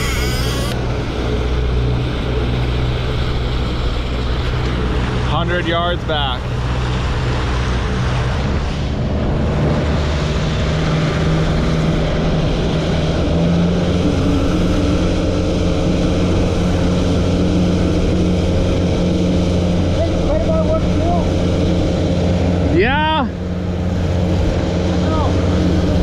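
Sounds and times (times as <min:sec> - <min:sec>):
outboard motor running: 0:00.0 - 0:26.0
water rushing in wake: 0:00.0 - 0:26.0.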